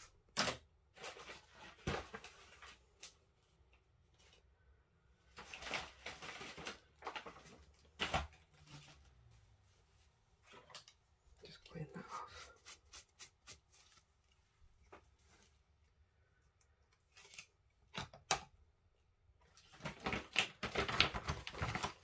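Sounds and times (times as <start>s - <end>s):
rustling of craft supplies: 0.0s - 22.0s.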